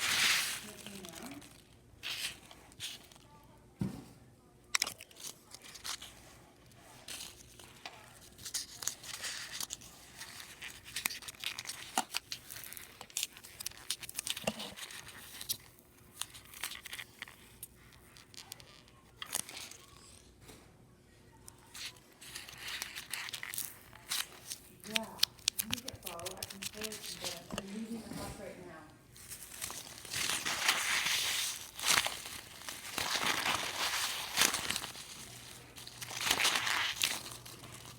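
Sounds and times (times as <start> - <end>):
packing peanuts crackling and rustling: 0.0 - 3.4, 4.7 - 20.4, 21.4 - 28.5, 29.1 - 37.9.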